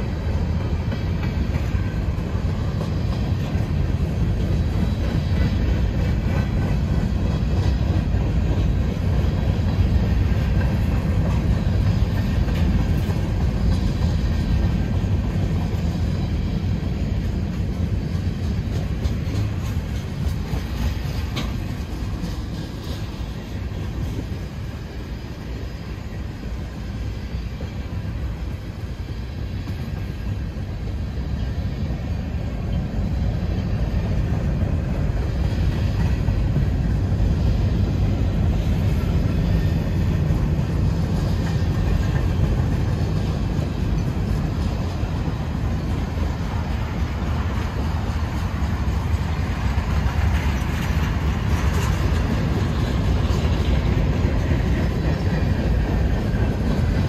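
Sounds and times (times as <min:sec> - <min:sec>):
freight train rumbling on rails: 0:00.0 - 0:57.0.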